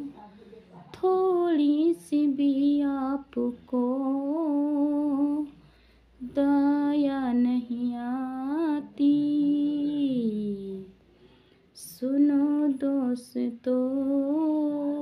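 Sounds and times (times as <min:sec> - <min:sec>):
woman singing wordless tune: 0:00.9 - 0:05.6, 0:06.2 - 0:11.0, 0:11.8 - 0:15.0.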